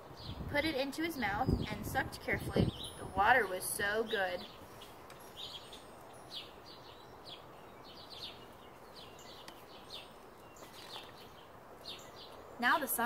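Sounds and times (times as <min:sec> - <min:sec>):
faint outdoor background noise: 0:00.0 - 0:13.0
small bird chirping: 0:02.5 - 0:13.0.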